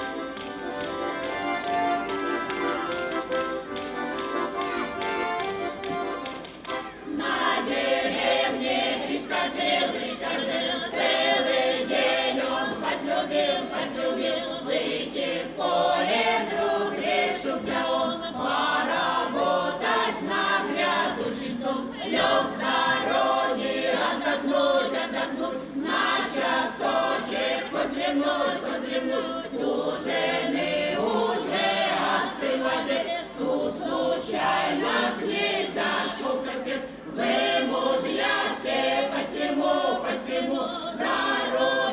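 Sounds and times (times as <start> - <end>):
choir singing: 6.8 - 41.9.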